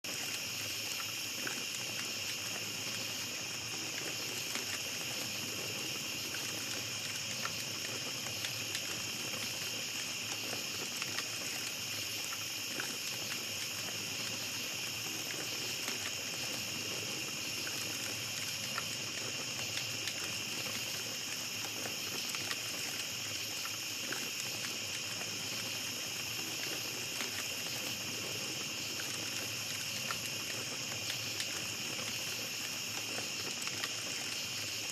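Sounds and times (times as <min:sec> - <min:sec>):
campfire crackling and popping: 0:00.0 - 0:34.9
night insects trilling: 0:00.0 - 0:34.9.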